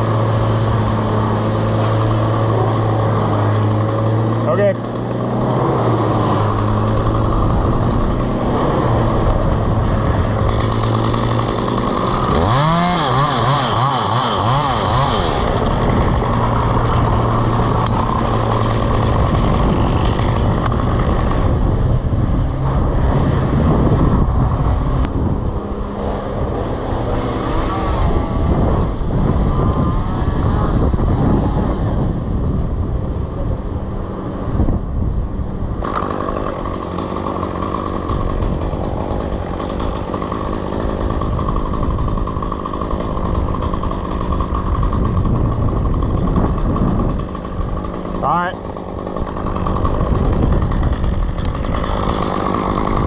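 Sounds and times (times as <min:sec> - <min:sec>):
chainsaw running and revving: 0:00.0 - 0:53.0.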